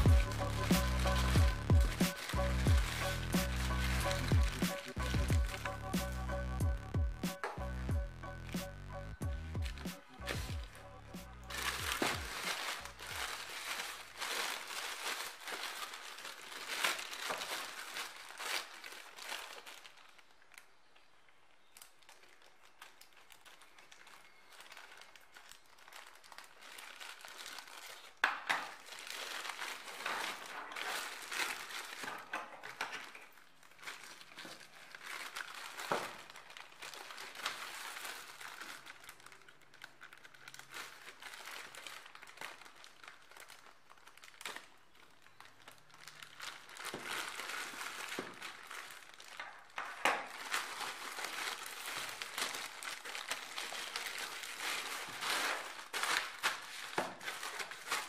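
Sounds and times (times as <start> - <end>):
scissors cutting plastic: 0.0 - 5.8, 6.5 - 20.0, 20.7 - 58.0
plastic bag crinkling: 0.0 - 58.0.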